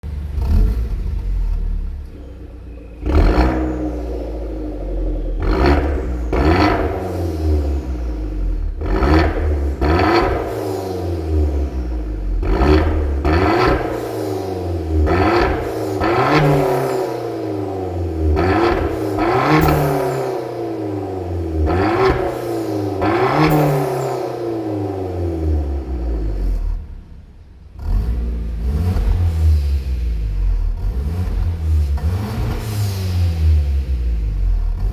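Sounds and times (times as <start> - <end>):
car exhaust rumbling idle: 0.0 - 34.9
engine revving throttle blips: 0.0 - 34.9.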